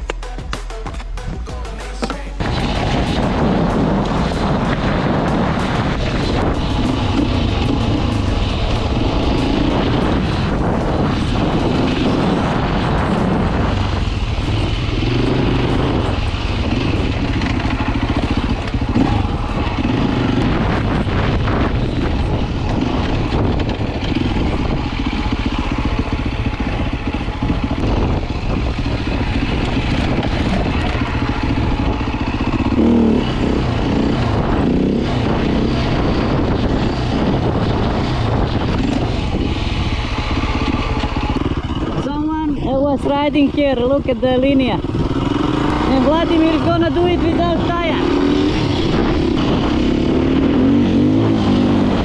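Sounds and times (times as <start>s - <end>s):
dirt bike engine revving: 1.8s - 52.0s.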